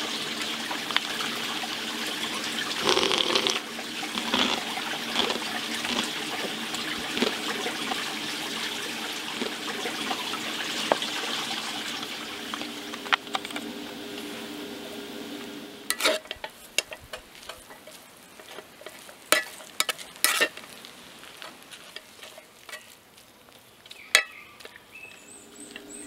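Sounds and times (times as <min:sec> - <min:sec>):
chicken sizzling in skillet: 0:00.0 - 0:26.0.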